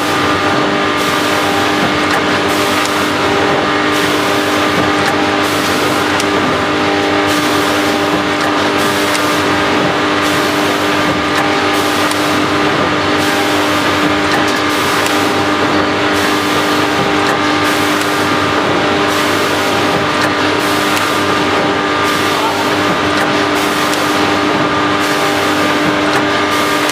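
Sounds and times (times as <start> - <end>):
machine humming: 0.0 - 26.9.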